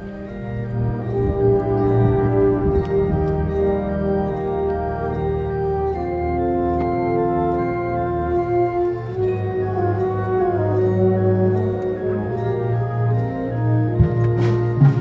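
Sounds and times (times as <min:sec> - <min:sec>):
wind band playing sustained chords: 0:00.0 - 0:15.0.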